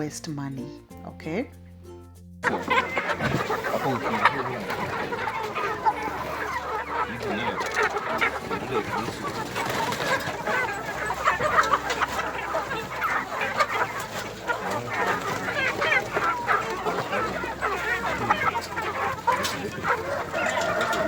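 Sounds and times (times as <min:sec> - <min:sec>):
chickens clucking: 0:02.4 - 0:21.0.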